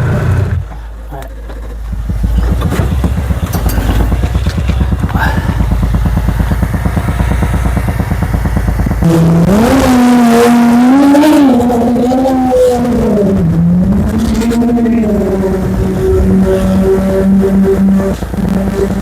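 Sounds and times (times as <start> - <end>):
low pulsing rumble: 0.0 - 19.0
drone propeller motors whining: 0.3 - 19.0.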